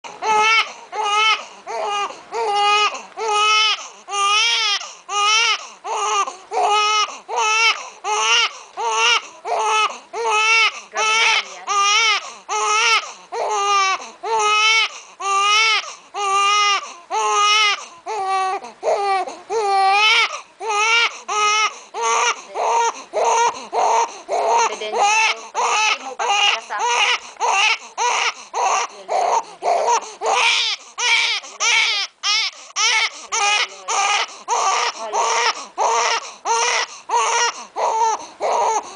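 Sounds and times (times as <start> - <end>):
infant crying: 0.1 - 38.9.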